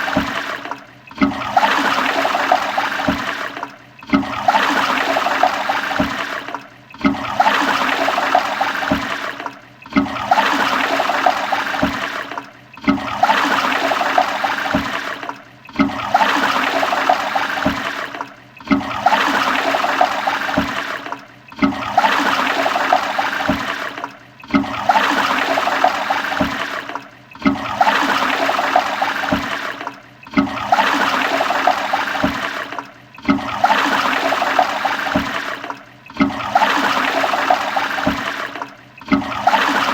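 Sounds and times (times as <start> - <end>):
toilet flushing: 0.0 - 39.9.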